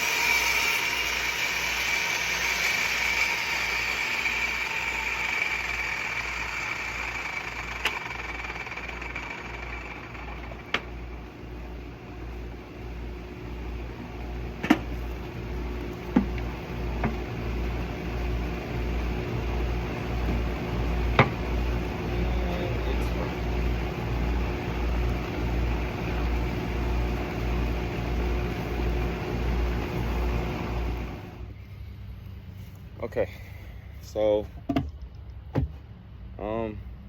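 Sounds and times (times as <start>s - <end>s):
machine humming and throbbing: 0.0s - 31.6s.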